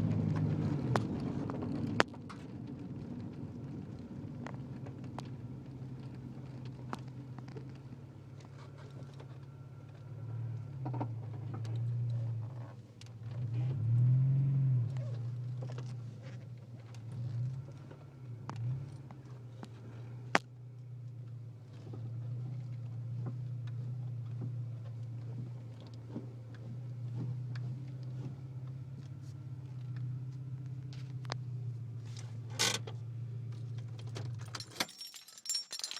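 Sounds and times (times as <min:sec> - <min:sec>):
car engine humming: 0:00.0 - 0:35.9.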